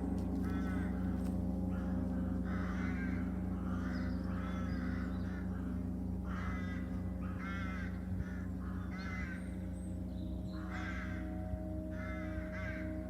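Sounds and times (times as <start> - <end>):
gong ringing hum: 0.0 - 13.0
crows cawing: 0.1 - 13.0.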